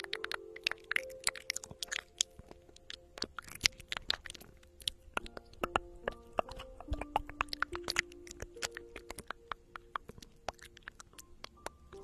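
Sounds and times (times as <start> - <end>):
metal tool scraping earwax: 0.0 - 11.2
soft background music: 0.0 - 12.0.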